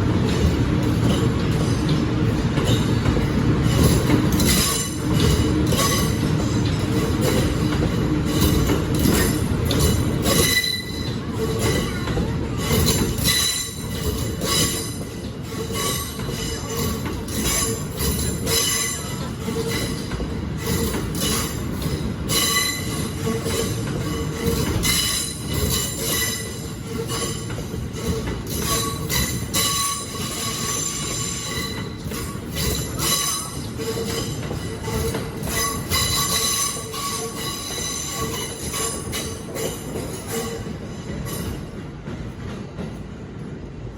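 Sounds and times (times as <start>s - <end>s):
low train rumble: 0.0s - 43.9s
train wheels clicking: 0.0s - 43.9s
train wheels squealing: 2.5s - 41.8s.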